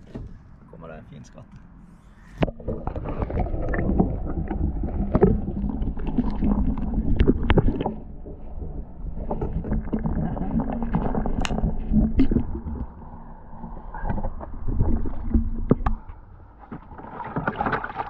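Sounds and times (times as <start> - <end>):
water sloshing and splashing: 2.1 - 18.0.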